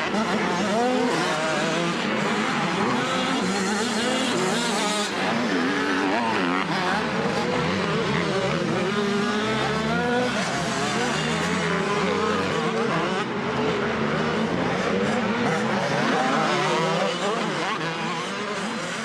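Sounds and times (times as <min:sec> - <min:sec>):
motocross bikes racing: 0:00.0 - 0:19.0.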